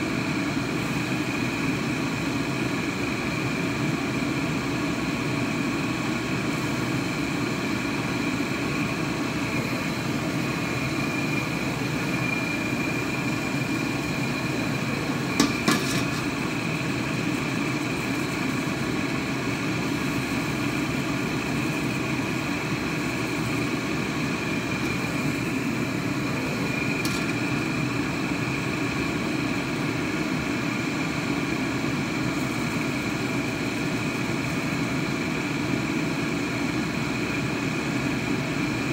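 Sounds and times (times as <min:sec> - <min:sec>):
faint high whine: 0:00.0 - 0:38.9
mechanical hum and rush: 0:00.0 - 0:38.9.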